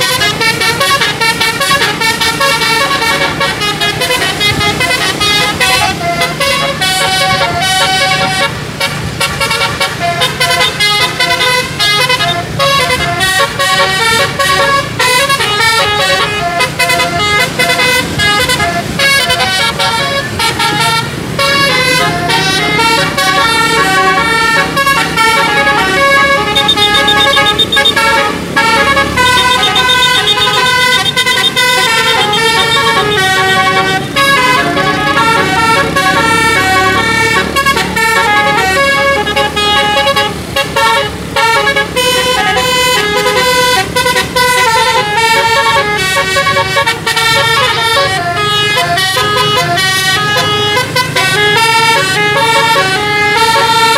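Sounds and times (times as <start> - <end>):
musical bus air horn: 0.0 - 53.9.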